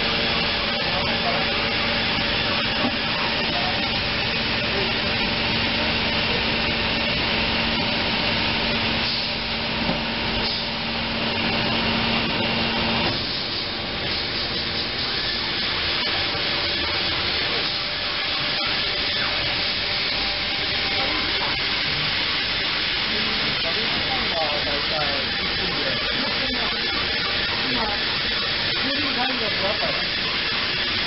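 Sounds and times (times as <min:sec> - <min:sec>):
machinery noise: 0:00.0 - 0:31.0
steady hum: 0:00.0 - 0:31.0.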